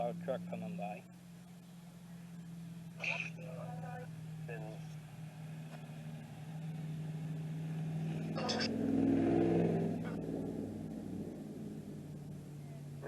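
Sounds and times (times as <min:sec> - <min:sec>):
truck passing by: 0:00.0 - 0:13.0.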